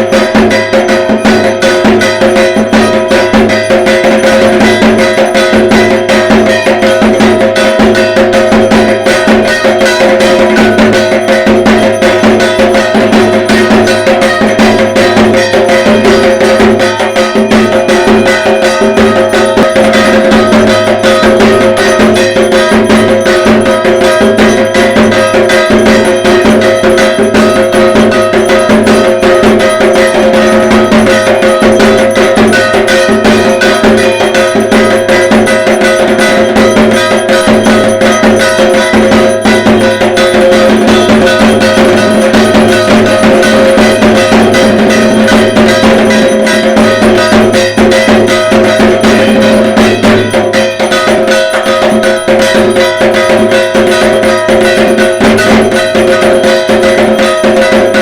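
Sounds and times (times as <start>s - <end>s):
barrel drum beaten with sticks: 0.0s - 58.0s
steady metallic ringing: 0.0s - 58.0s.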